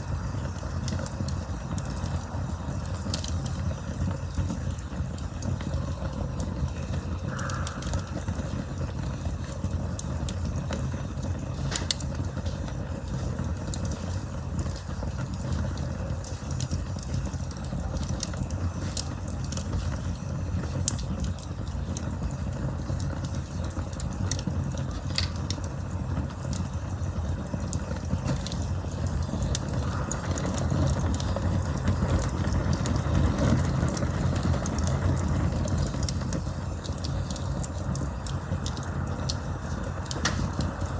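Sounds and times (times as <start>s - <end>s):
low rumble of flames: 0.0s - 40.9s
wood crackling and popping: 0.0s - 40.9s.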